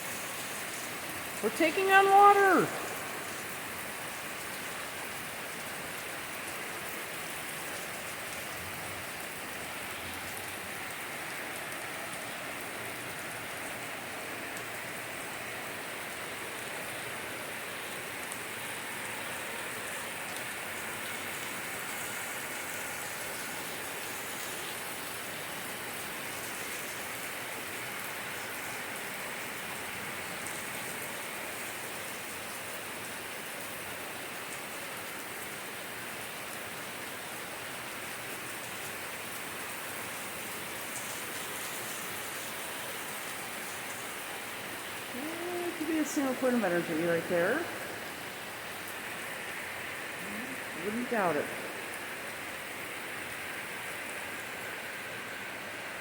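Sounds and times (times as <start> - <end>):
steady rainfall on leaves: 0.0 - 56.0.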